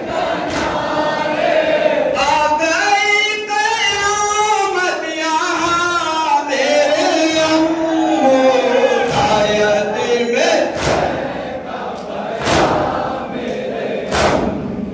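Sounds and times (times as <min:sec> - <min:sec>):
crowd singing a lament: 0:00.0 - 0:14.9.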